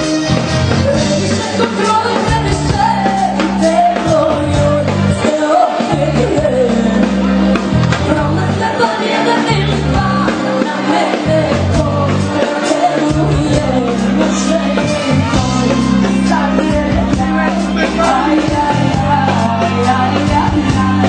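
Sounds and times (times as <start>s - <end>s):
live folk-pop dance band: 0.0s - 21.0s.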